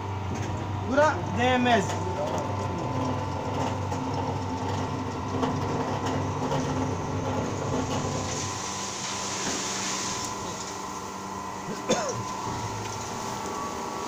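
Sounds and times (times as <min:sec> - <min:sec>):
feed mixer machine humming: 0:00.0 - 0:14.0.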